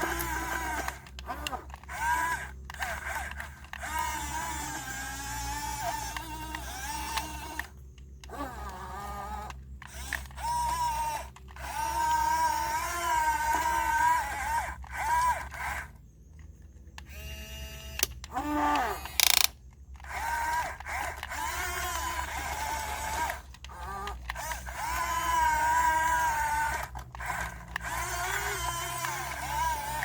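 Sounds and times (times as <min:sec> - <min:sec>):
electric motors whining: 0:00.0 - 0:30.0.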